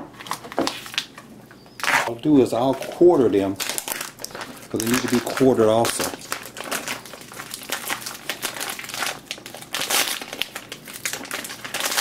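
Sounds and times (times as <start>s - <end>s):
plastic bag crinkling: 0.1s - 1.2s, 1.8s - 12.0s.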